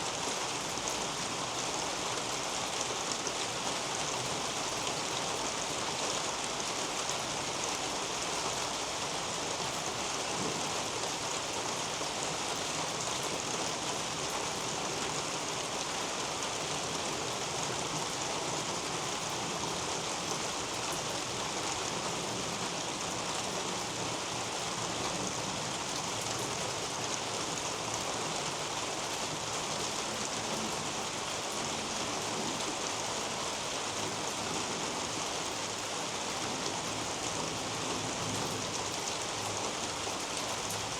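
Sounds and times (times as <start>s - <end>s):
rain on roof and plants: 0.0s - 40.9s.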